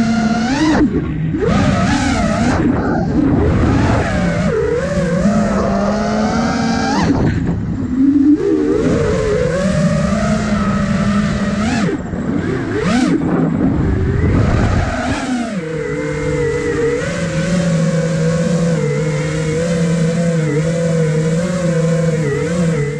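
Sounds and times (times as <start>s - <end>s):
wind rush over microphone: 0.0s - 22.1s
drone motors whining: 0.0s - 22.9s.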